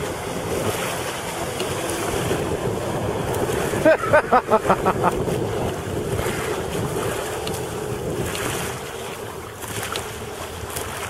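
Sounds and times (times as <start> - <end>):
jetski engine running: 0.0 - 11.0
wind buffeting the microphone: 0.0 - 11.0.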